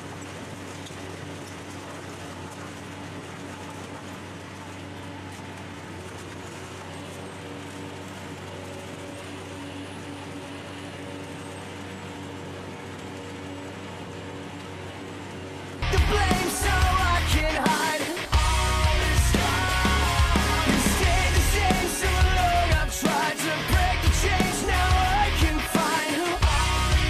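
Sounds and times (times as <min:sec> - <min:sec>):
car shredder drone: 0:00.0 - 0:27.0.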